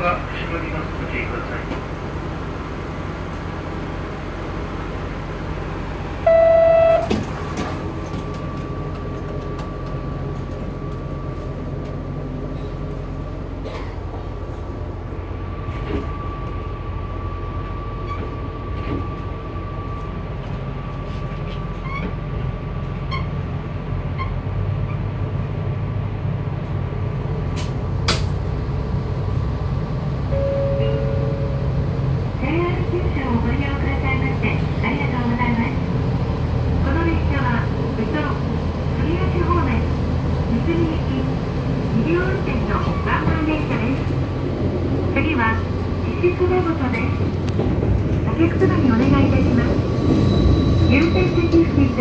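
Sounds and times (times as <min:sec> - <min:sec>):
diesel railcar engine rumble: 0:00.0 - 0:52.0.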